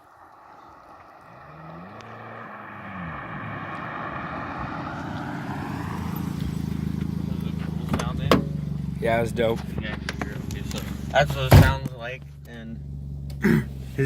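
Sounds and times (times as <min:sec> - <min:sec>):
car exhaust rumble: 0:00.0 - 0:14.0.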